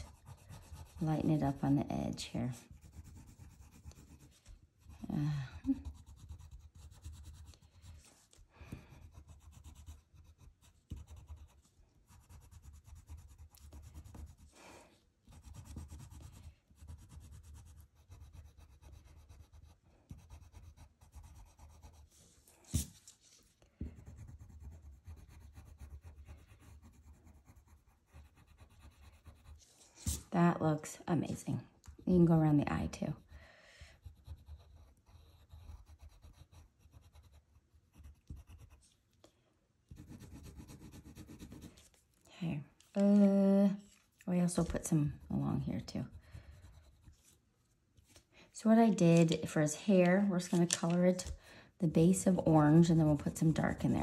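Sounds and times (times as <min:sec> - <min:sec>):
pencil scratching on paper: 0:00.0 - 0:30.4, 0:32.0 - 0:39.0, 0:39.9 - 0:42.0, 0:44.4 - 0:47.4, 0:52.2 - 0:54.0.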